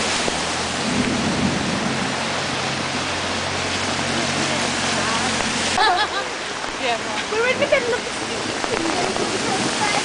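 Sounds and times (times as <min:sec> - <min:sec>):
diesel engine hum: 0:00.0 - 0:10.0
rain: 0:00.0 - 0:10.0
water rushing: 0:00.0 - 0:10.0.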